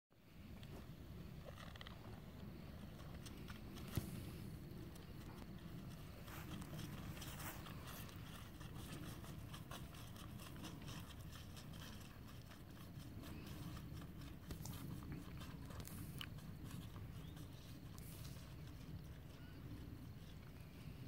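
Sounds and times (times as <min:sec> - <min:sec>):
hooves on dirt: 0:00.6 - 0:21.0.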